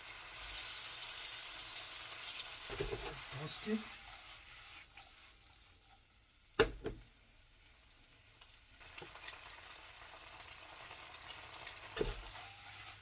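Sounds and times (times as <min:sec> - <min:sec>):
spaghetti sizzling in a pan: 0:00.0 - 0:13.0.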